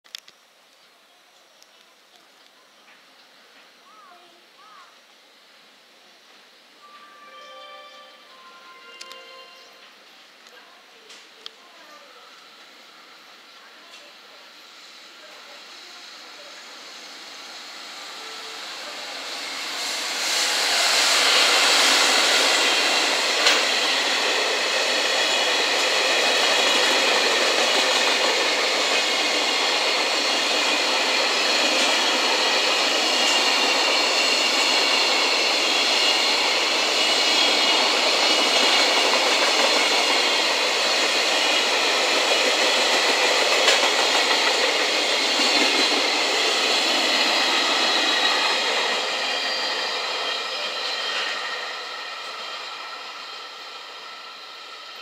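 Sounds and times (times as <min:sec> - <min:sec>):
electric locomotive passing: 0:00.1 - 0:55.0.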